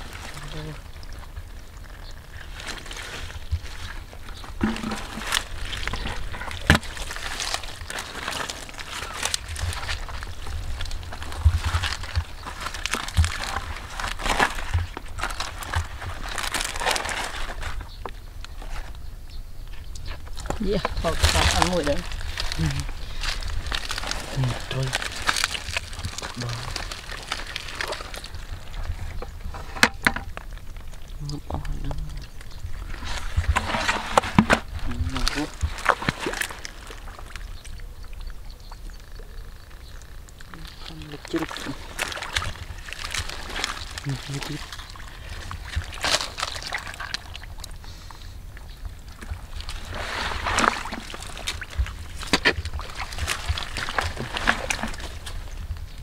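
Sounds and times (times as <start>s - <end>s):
hands rustling through mud and leaves: 0.0s - 19.2s, 20.0s - 56.0s.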